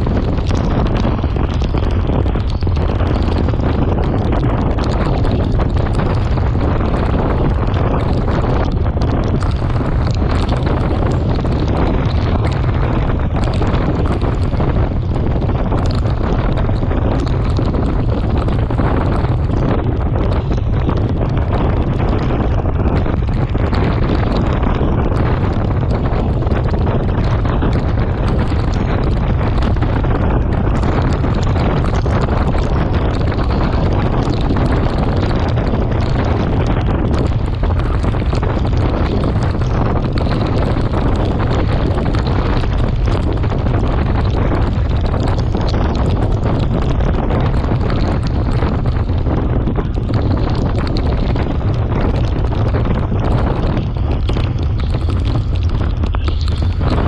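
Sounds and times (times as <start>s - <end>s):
low rumble: 0.0s - 57.0s
wind buffeting microphone: 0.0s - 57.0s.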